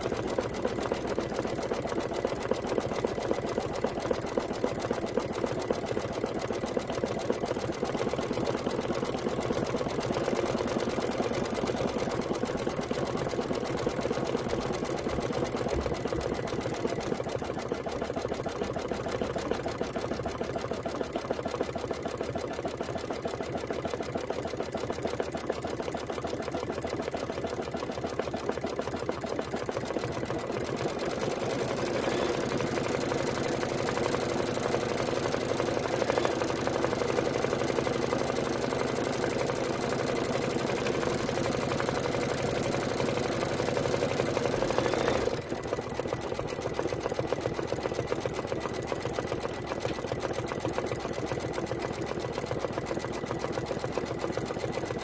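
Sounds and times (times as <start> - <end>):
embroidery machine stitching: 0.0 - 55.0.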